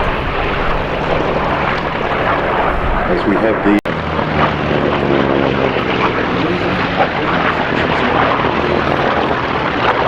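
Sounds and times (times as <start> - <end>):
propeller plane engine drone: 0.0 - 10.0.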